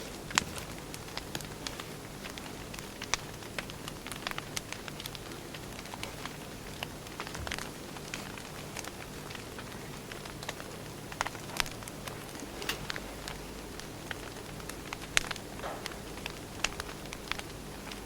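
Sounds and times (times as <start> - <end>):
firewood crackling: 0.0 - 18.0.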